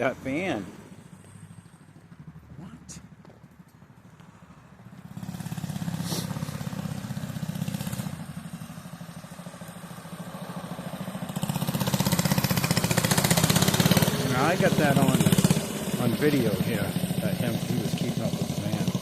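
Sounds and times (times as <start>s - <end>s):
mini bike engine running: 0.0s - 19.0s.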